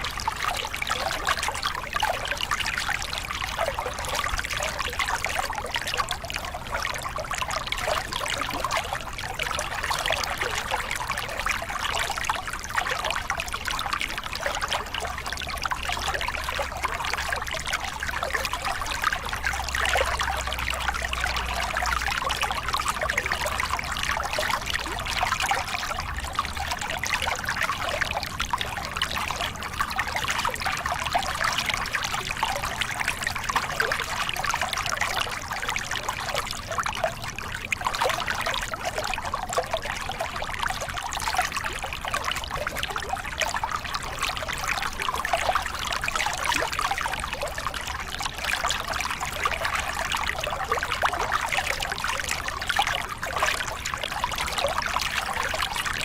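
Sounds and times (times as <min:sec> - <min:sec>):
water pouring over rocks: 0:00.0 - 0:56.0.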